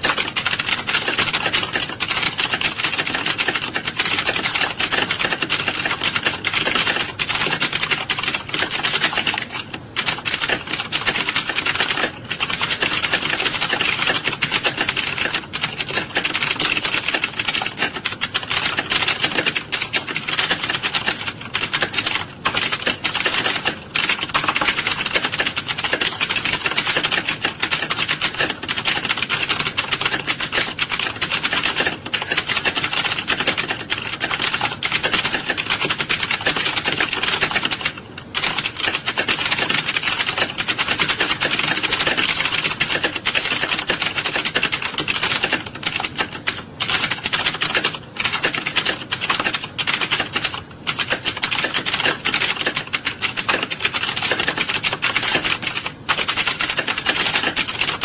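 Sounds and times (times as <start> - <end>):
keyboards typing clatter: 0.0 - 58.0.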